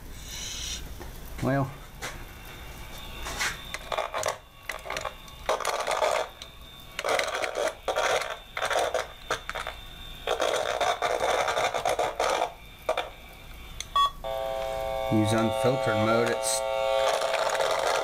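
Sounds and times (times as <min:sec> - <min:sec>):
faint high whine: 0:00.0 - 0:18.0
tone probe buzzing and crackling: 0:02.0 - 0:18.0.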